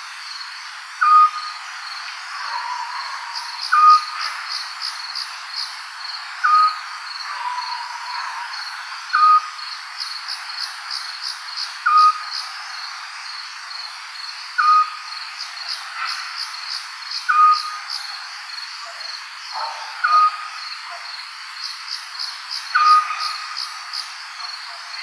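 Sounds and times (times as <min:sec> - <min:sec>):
pulsing cricket chirps: 0:00.1 - 0:25.0.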